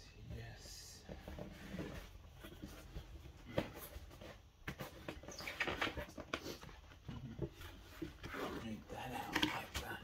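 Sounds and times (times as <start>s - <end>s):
cardboard scraping and rustling: 1.1s - 9.9s.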